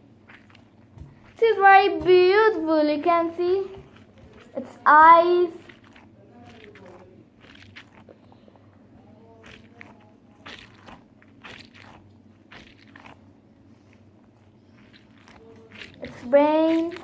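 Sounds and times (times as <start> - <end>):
squeeze toys squishing and crackling: 0.0 - 1.8, 3.5 - 8.4, 9.3 - 17.0.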